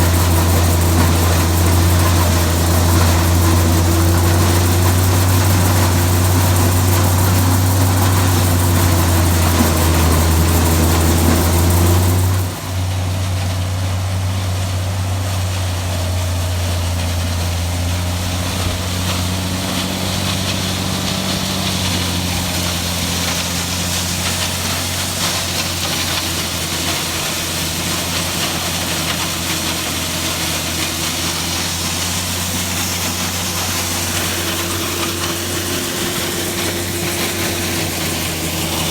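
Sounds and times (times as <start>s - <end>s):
grinder mixer grinding corn: 0.0s - 38.9s
tractor engine drone: 0.0s - 38.9s.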